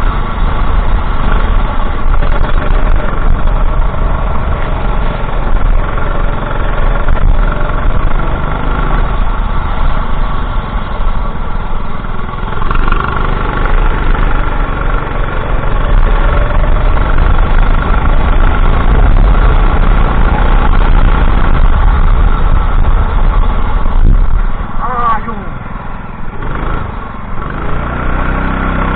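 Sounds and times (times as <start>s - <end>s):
racing kart engine: 0.0s - 28.9s.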